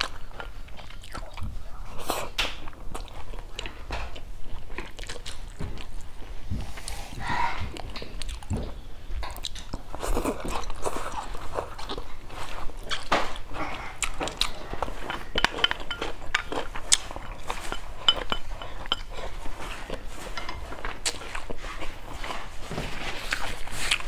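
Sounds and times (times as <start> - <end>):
close chewing and crunching: 0.0 - 24.0.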